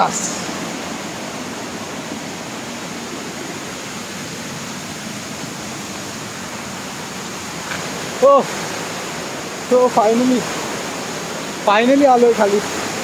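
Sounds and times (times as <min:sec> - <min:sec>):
stream and waterfall rushing: 0:00.0 - 0:13.0.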